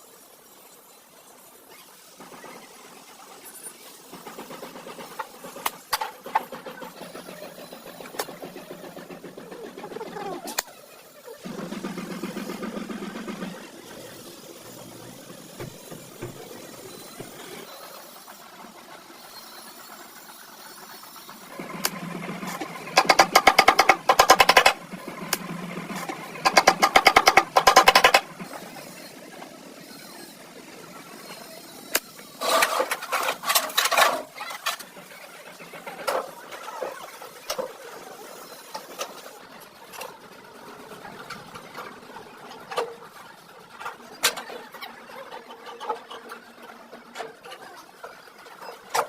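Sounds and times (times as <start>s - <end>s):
fast mechanical rattling: 0.2s - 49.0s.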